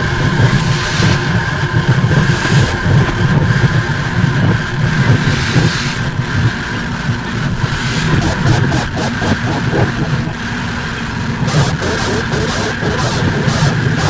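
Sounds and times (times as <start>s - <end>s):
experimental noise music: 0.0s - 14.0s.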